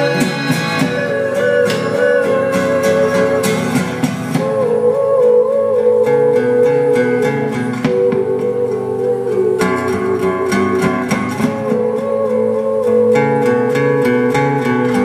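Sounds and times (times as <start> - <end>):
guitar strummed and plucked: 0.0 - 15.0.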